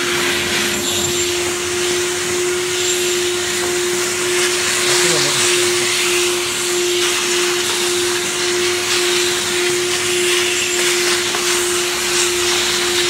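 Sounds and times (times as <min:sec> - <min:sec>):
vacuum cleaner motor hum: 0:00.0 - 0:13.0
vacuum nozzle sucking up chips: 0:00.0 - 0:13.0.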